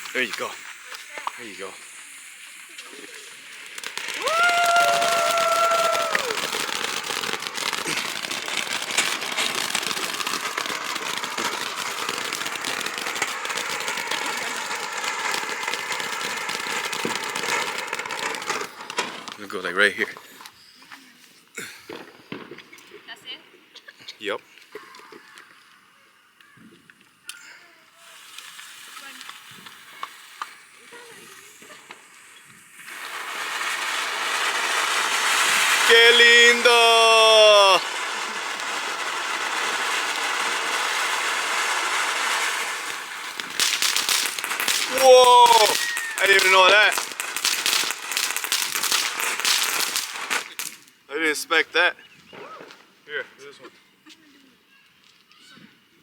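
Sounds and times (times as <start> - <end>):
firework fountain crackling hiss: 0.0 - 55.5.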